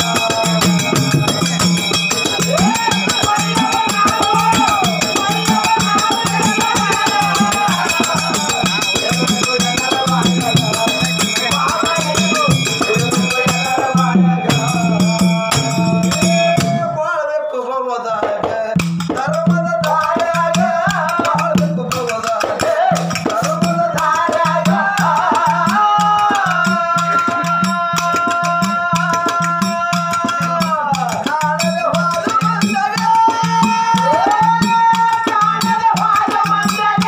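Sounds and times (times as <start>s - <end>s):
rhythmic percussion: 0.0s - 17.3s, 17.9s - 37.0s
man singing folk song: 0.0s - 37.0s.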